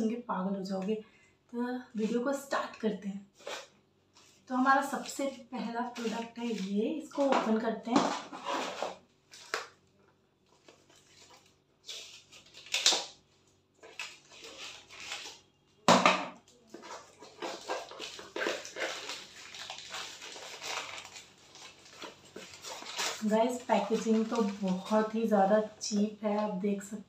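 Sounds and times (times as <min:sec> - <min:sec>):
plastic packaging crinkling: 0:03.3 - 0:09.8, 0:10.4 - 0:15.8, 0:16.4 - 0:26.6.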